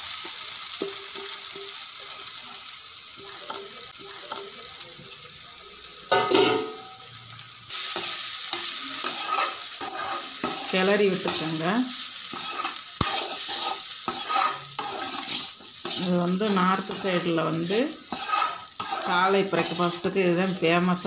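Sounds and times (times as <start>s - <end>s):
frying sizzle: 0.0s - 21.0s
metal spoon scraping a pan: 0.3s - 4.8s, 6.0s - 7.0s, 7.7s - 21.0s.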